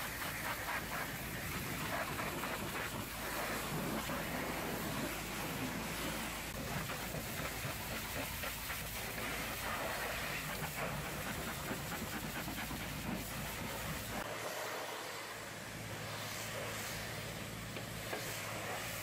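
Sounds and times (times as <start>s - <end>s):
pressure washer jet spraying: 0.0s - 19.0s.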